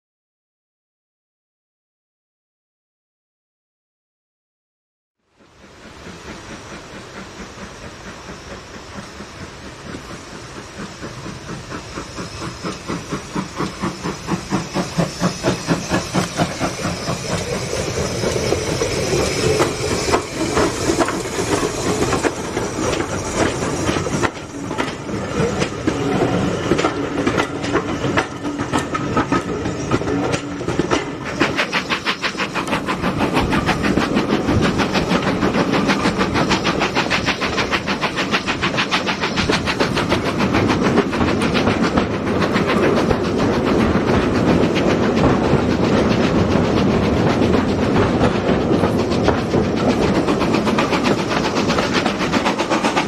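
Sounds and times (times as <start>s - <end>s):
steam locomotive exhaust beats: 5.3s - 53.0s
train wheels clicking over rail joints: 5.8s - 53.0s.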